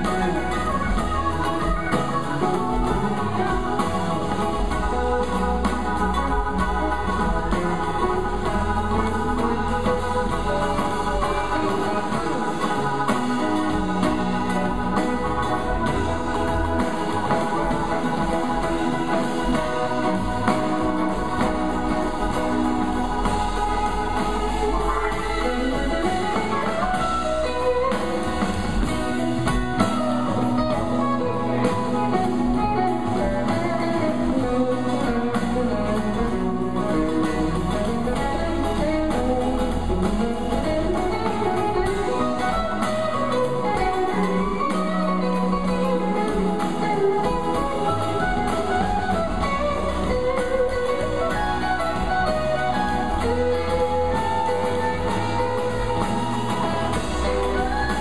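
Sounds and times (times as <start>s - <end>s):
bass guitar: 0.0s - 58.0s
drum kit: 0.0s - 58.0s
electric guitar solo: 0.0s - 58.0s.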